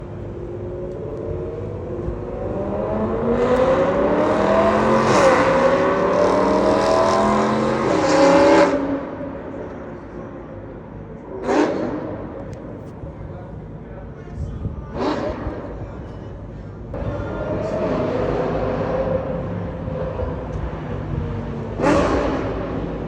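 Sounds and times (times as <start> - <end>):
car engine accelerating hard: 0.0 - 12.8, 14.9 - 15.8, 17.0 - 23.0.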